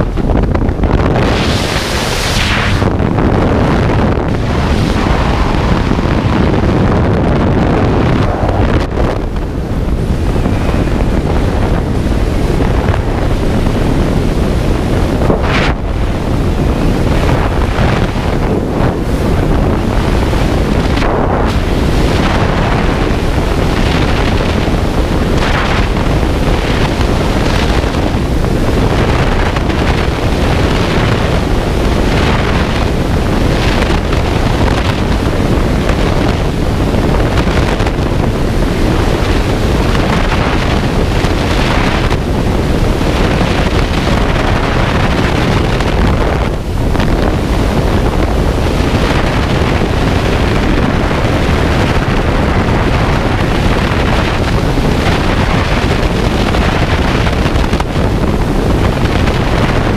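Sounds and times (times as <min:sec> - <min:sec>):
wind blasting across microphone: 0:00.0 - 0:59.9.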